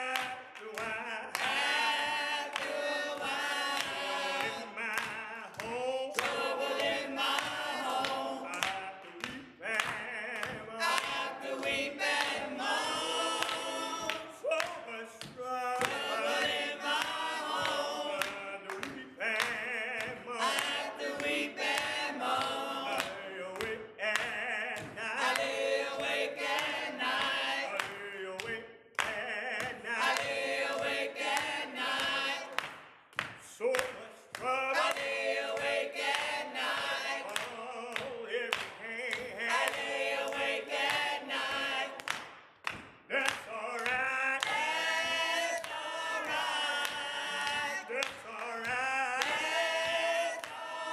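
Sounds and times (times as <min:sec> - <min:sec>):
group singing a cappella gospel: 0:00.0 - 0:50.9
hand clapping: 0:00.0 - 0:50.9.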